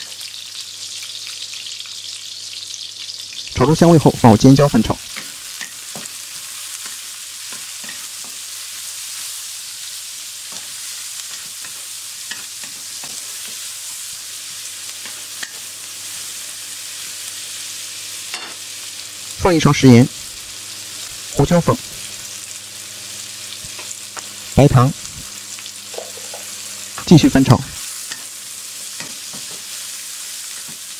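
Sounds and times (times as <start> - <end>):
peppers sizzling in hot oil: 0.0 - 30.9.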